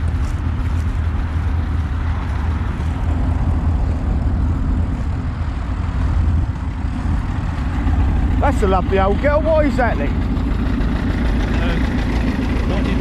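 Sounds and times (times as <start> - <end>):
old tractor engine running: 0.0 - 13.0.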